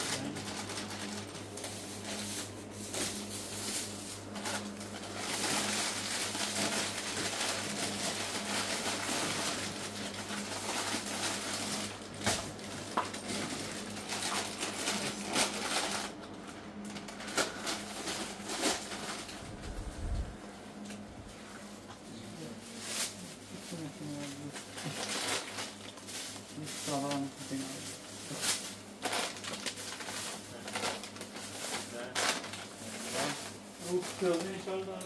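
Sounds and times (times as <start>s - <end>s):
plastic wrappers rustling: 0.0s - 16.2s, 16.8s - 20.0s, 21.6s - 35.0s
low steady hum: 0.0s - 35.0s.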